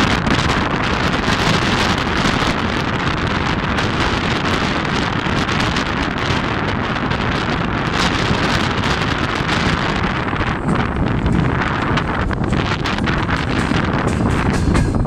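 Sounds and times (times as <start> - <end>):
train running on track: 0.0 - 15.0
wind buffeting microphone: 0.0 - 15.0.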